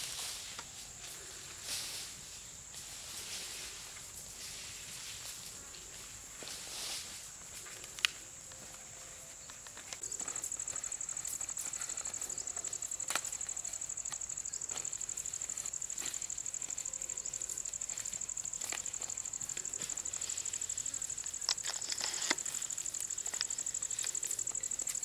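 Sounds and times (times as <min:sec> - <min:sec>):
high-pitched insect chorus: 0:00.0 - 0:25.0
rustling of leaves being folded: 0:00.0 - 0:25.0.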